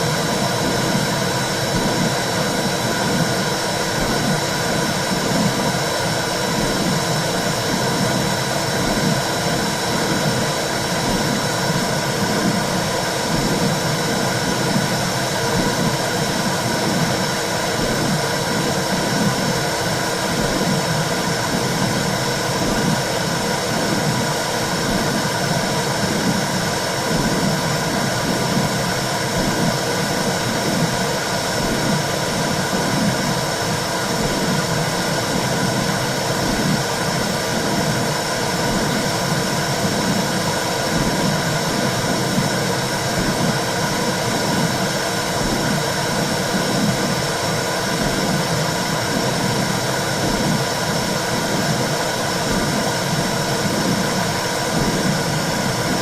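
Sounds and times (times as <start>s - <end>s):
low rhythmic pulsing: 0.0s - 56.0s.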